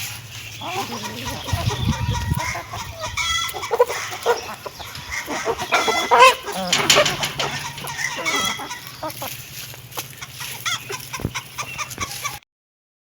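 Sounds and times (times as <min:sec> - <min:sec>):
hens clucking: 0:00.0 - 0:12.4.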